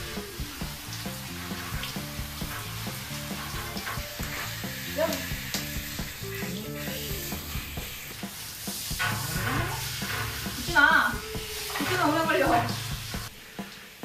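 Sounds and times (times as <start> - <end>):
background music: 0.0 - 14.0
shower water spraying: 0.0 - 14.0.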